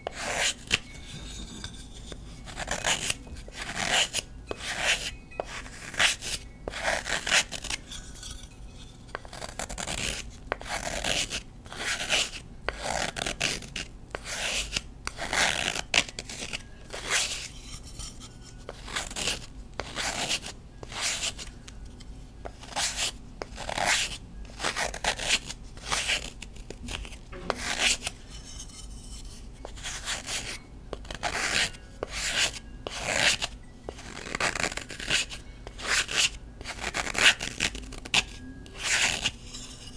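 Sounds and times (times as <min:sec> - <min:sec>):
knife scraping chalk: 0:00.0 - 0:39.9.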